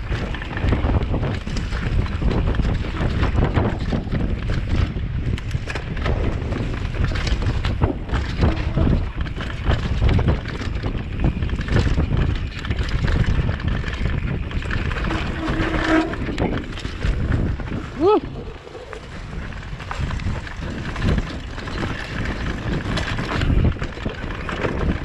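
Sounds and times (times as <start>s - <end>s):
mountain bike rattling over rocks: 0.0s - 25.0s
wind on microphone: 0.0s - 25.0s.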